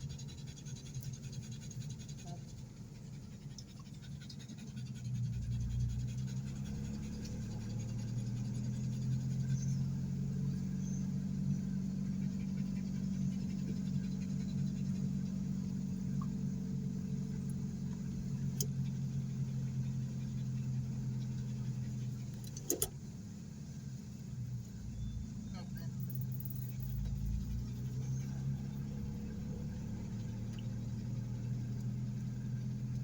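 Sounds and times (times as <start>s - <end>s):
low engine drone: 0.0s - 22.9s, 23.9s - 33.0s.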